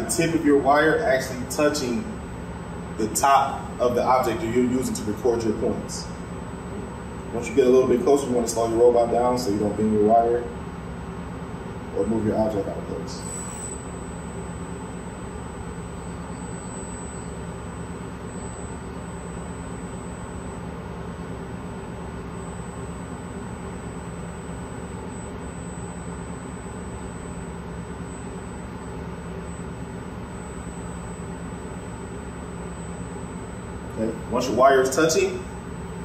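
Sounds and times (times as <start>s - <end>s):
high-pitched whine: 0.0s - 36.0s
workshop machinery hum: 0.0s - 36.0s.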